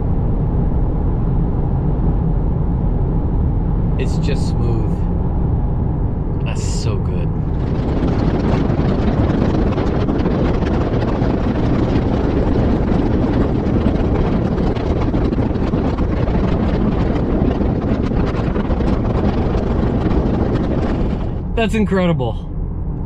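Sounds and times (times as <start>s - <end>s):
tyre and road noise: 0.0s - 23.0s
wind rushing over microphone: 0.0s - 23.0s.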